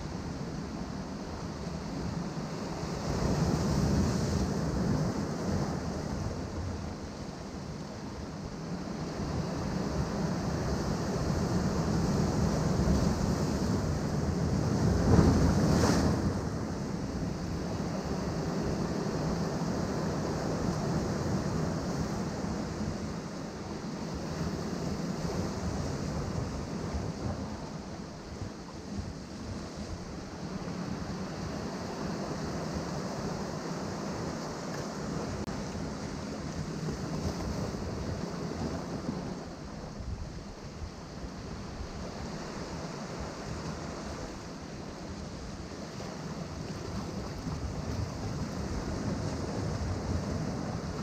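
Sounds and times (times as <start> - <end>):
wind rumble on microphone: 0.0 - 51.0
ocean surf breaking on rocks: 8.6 - 51.0.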